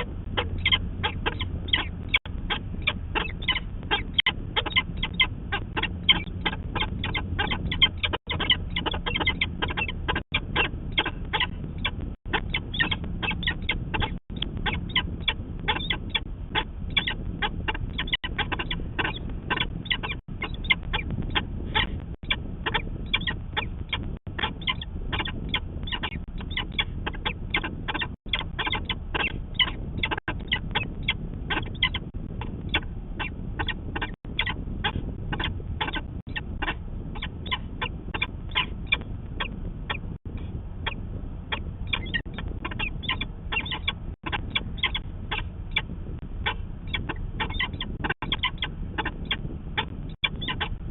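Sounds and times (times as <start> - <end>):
falcon calling harsh notes: 0.0 - 50.9
low rumble: 0.0 - 50.9.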